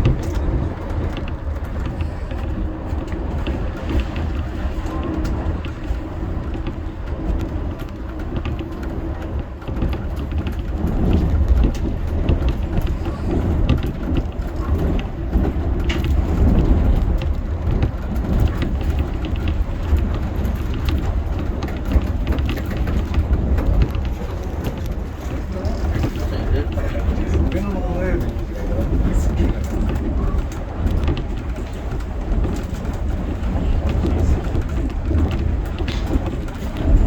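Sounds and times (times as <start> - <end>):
monorail car rumble: 0.0 - 37.0
small clicks and crackles: 0.0 - 37.0.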